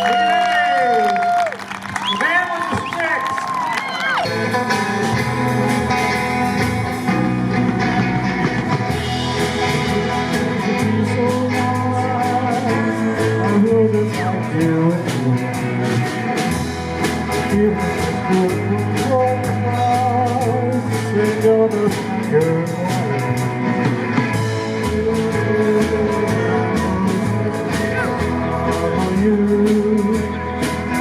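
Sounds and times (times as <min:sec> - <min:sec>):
bass guitar: 0:00.0 - 0:31.0
drums: 0:00.0 - 0:31.0
electric guitar melody: 0:03.7 - 0:31.0.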